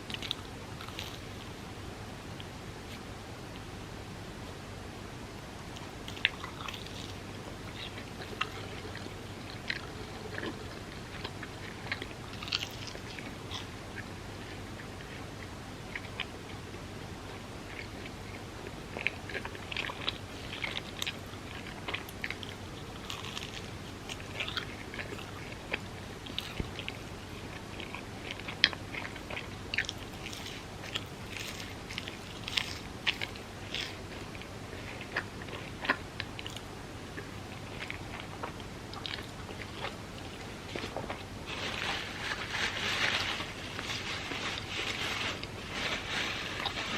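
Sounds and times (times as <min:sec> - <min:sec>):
person chewing sticky food: 0:00.0 - 0:01.8, 0:05.6 - 0:46.9.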